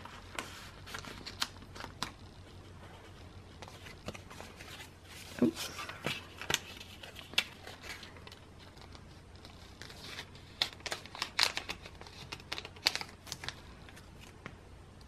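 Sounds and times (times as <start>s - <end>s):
plastic sleeves crinkling: 0.0s - 2.2s, 3.6s - 14.5s.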